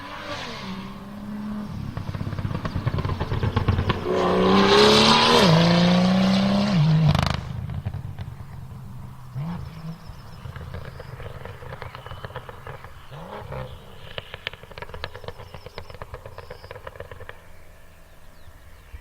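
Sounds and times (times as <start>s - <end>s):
car engine idling: 0.0s - 19.0s
car engine throttle blips: 0.0s - 19.0s
exhaust crackles and pops: 0.4s - 18.0s.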